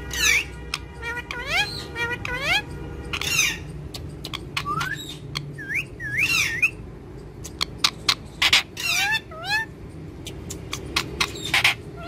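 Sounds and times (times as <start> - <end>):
parrots squawking: 0.0 - 6.8, 7.4 - 12.0
parrots whistling calls: 0.0 - 6.8, 7.4 - 12.0.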